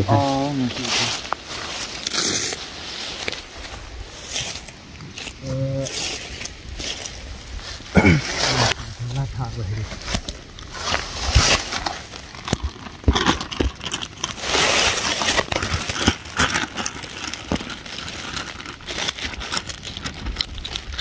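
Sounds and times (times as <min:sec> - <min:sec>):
dry leaves crackling underfoot: 0:00.0 - 0:21.0
plastic bags crinkling: 0:00.0 - 0:21.0.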